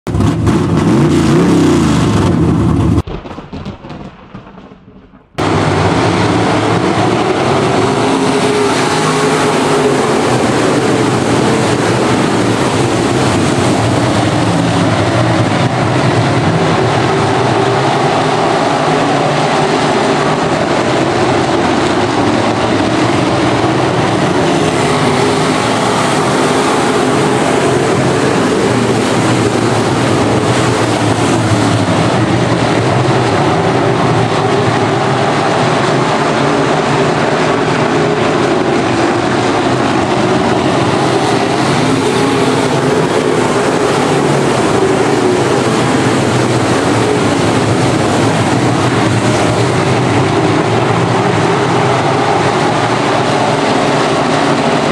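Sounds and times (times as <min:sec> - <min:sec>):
race car engines: 0:00.0 - 0:03.0, 0:05.4 - 0:54.9
rising pitch sound: 0:05.4 - 0:54.2.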